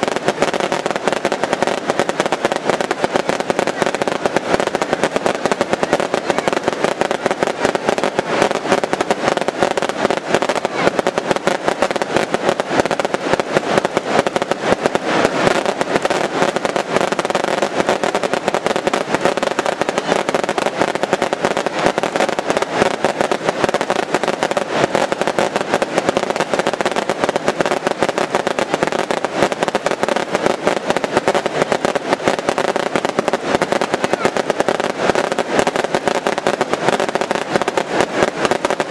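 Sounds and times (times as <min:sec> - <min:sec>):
fireworks barrage: 0:00.0 - 0:38.9.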